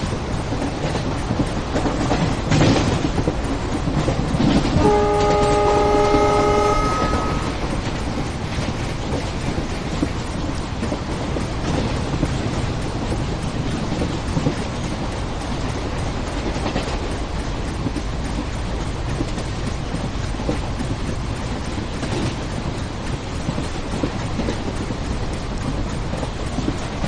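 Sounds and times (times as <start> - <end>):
faint clicks of train wheels: 0.0 - 27.0
train wheels rumbling on rails: 0.0 - 27.0.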